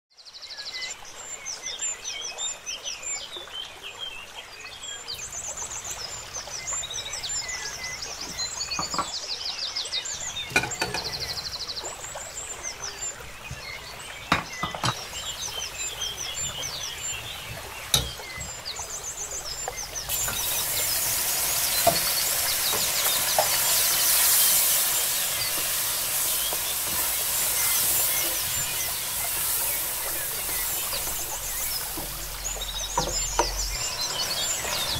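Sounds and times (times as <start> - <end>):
small birds chirping: 0.2 - 34.9
onions frying in oil: 4.8 - 34.9.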